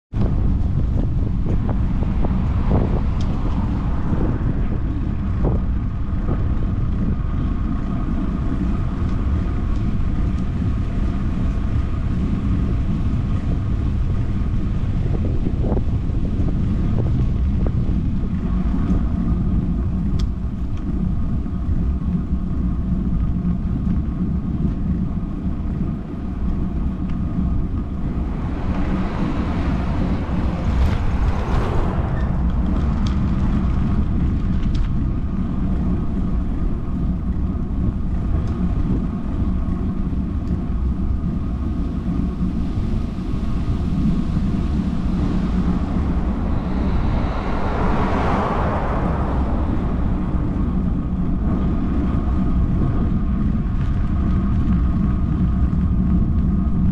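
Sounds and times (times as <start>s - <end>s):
wind noise on microphone: 0.0s - 56.9s.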